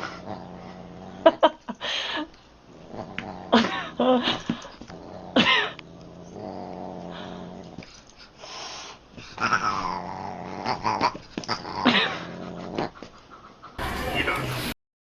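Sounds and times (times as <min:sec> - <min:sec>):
pet growling: 0:00.0 - 0:13.9.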